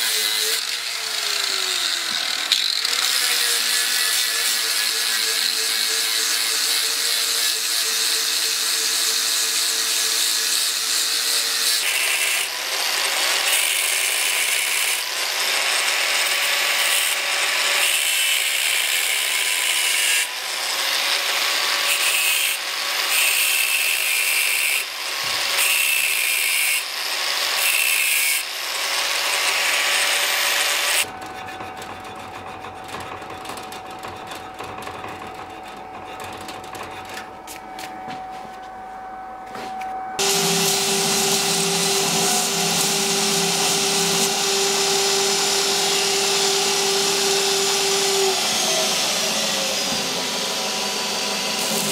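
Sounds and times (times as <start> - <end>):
electric power tool grinding metal: 0.0 - 37.3, 40.2 - 51.9.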